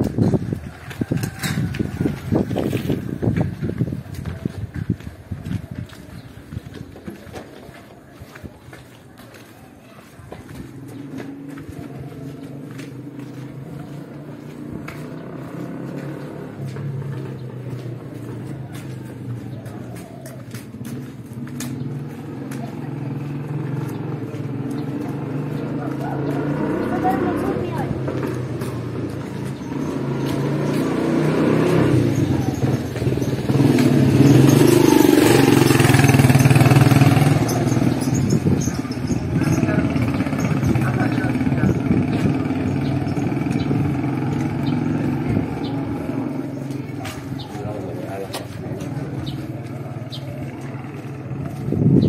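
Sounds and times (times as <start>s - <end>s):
vehicle engine hum: 9.2s - 52.0s.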